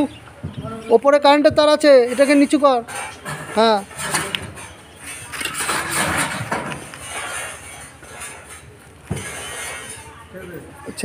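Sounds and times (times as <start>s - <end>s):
steel roofing sheet scraping and rattling: 1.9s - 11.0s.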